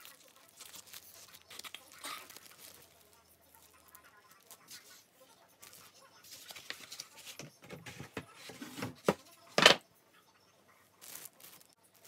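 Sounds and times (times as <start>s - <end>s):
plastic wrap rustling: 0.0s - 9.8s, 10.9s - 12.0s.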